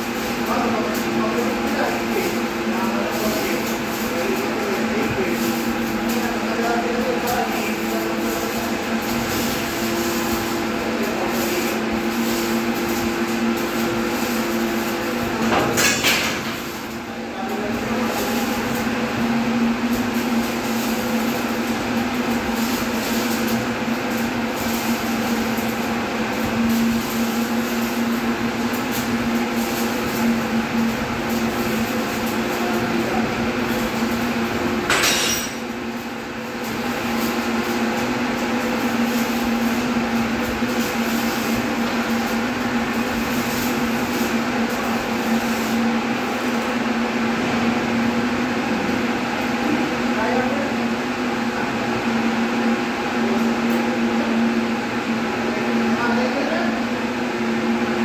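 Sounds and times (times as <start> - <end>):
machinery hum: 0.0 - 58.0.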